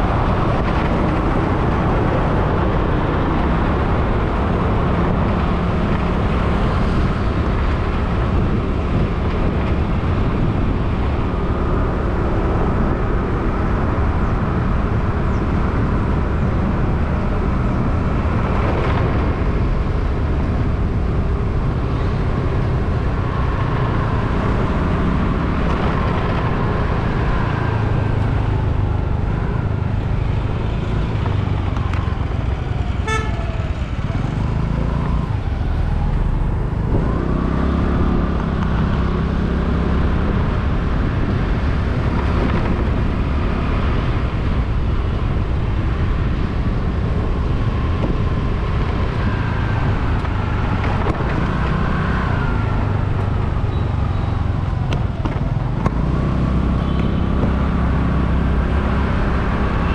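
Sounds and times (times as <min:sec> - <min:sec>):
motorbike engine and road noise: 0:00.0 - 0:59.9.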